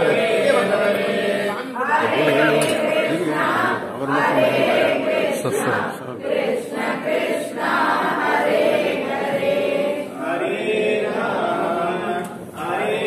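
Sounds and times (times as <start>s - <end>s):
group chanting in unison: 0.0s - 13.0s.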